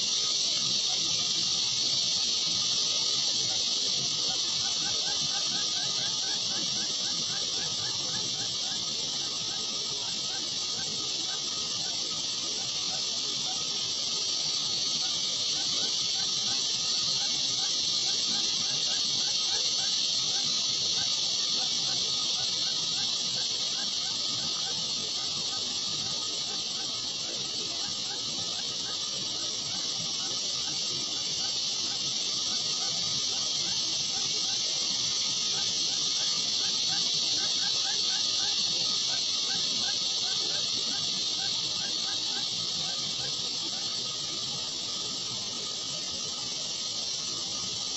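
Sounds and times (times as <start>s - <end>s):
steady high-pitched hiss: 0.0s - 47.9s.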